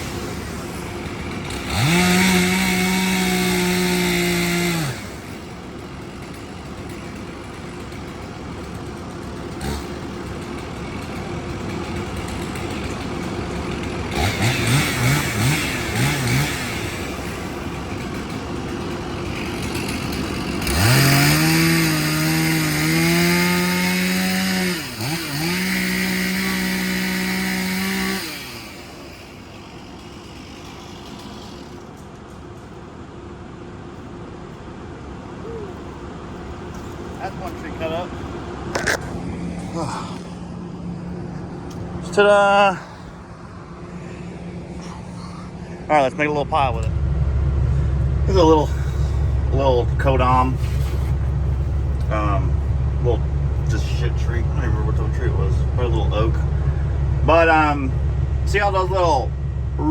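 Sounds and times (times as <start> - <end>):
excavator diesel engine: 0.0 - 59.9
hydraulic drone: 0.0 - 59.9.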